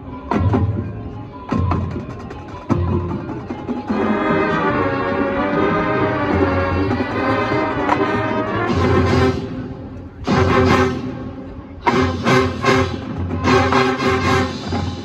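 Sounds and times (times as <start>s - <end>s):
marching band playing: 0.1s - 15.0s.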